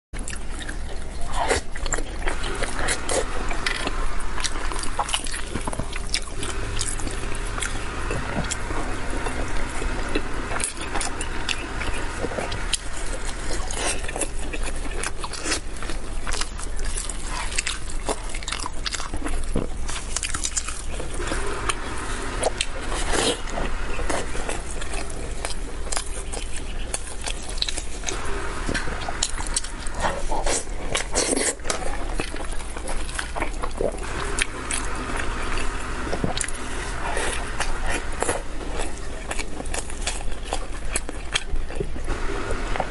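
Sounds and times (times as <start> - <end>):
chewing and biting food: 0.2 - 42.9.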